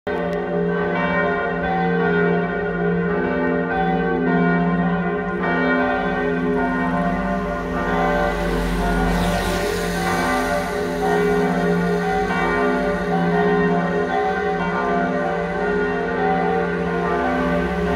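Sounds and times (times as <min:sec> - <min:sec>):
church bells pealing: 0:00.1 - 0:17.9.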